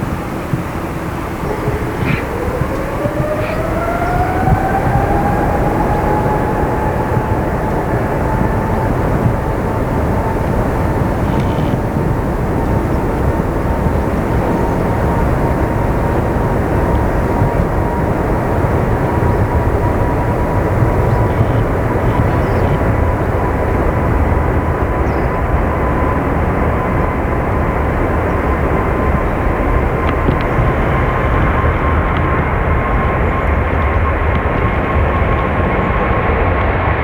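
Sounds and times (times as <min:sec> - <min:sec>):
jet engines roaring with whine: 0:00.0 - 0:37.0.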